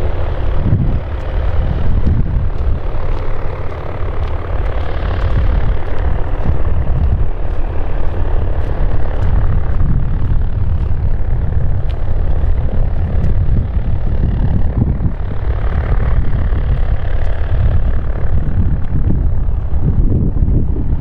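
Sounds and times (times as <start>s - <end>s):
propeller aircraft engine rumbling: 0.0s - 21.0s.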